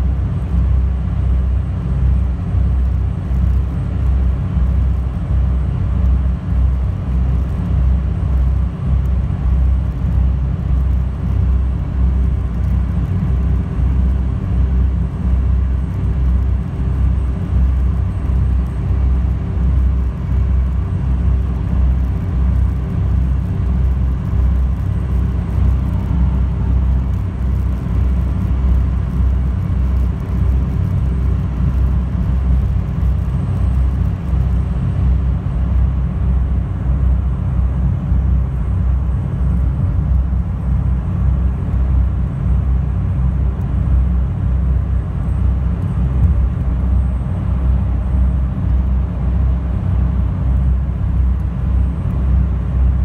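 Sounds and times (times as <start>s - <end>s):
boat engines droning: 0.0s - 53.0s
faint steady hum: 0.0s - 53.0s.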